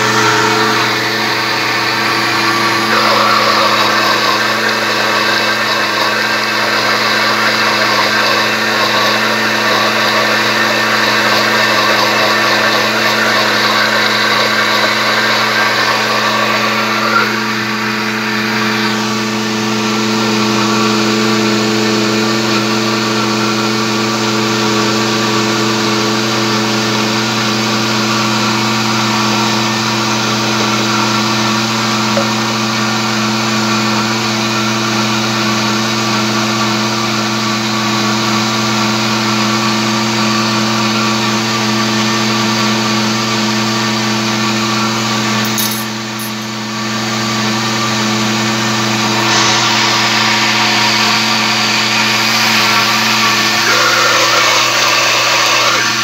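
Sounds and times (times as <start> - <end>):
blender motor running: 0.0 - 56.0.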